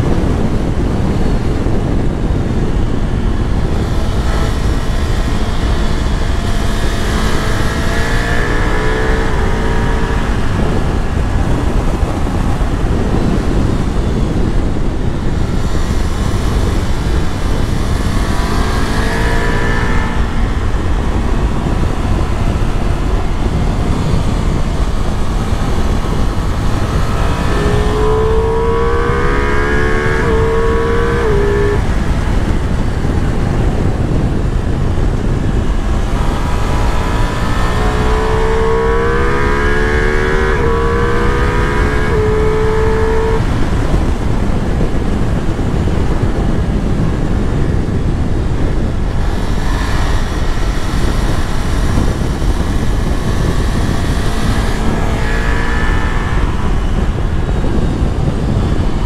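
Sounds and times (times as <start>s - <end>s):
motorcycle engine accelerating hard: 0.0s - 59.0s
wind rushing on microphone: 0.0s - 59.0s.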